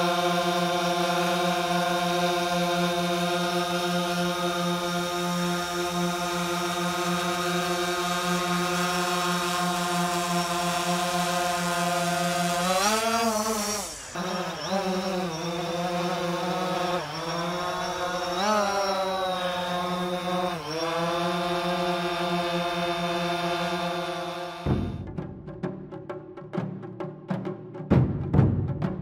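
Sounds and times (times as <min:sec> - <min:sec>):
drone propellers whining: 0:00.0 - 0:25.1.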